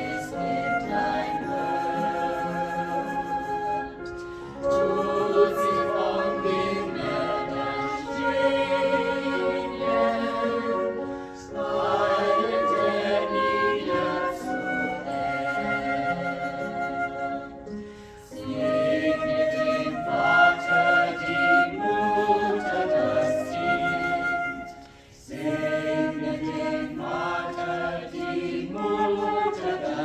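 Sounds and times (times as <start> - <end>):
church choir singing: 0.0 - 30.0.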